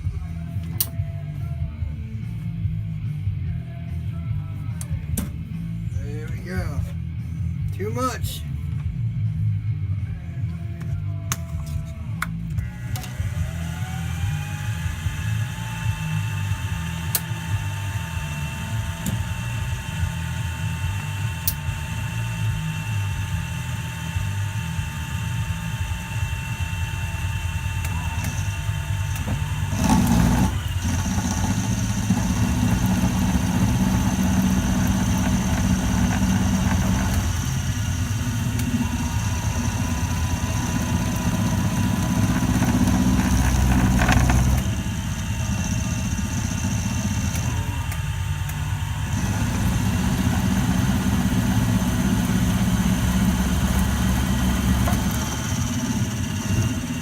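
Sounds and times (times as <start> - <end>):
milling machine motor whining: 11.3 - 57.0.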